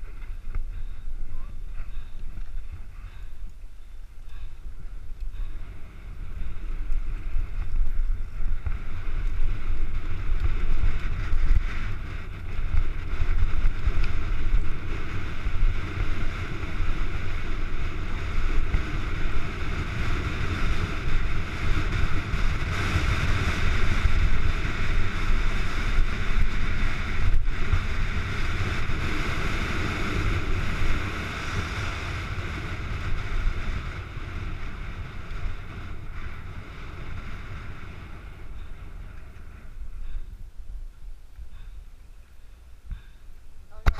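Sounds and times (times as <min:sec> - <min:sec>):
bike tyres rumbling on gravel: 0:00.0 - 0:43.9
wind buffeting microphone: 0:00.0 - 0:43.9.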